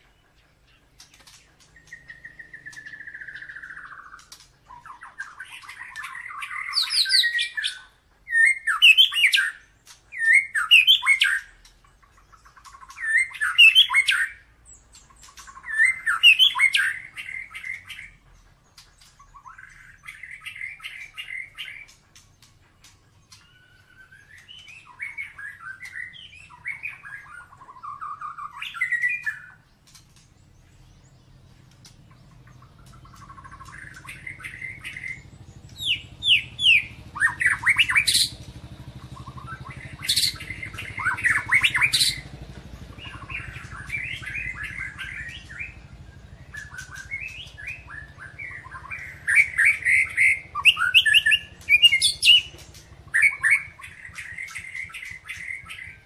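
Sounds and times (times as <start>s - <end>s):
songbird whistling and chattering: 0.0s - 56.0s.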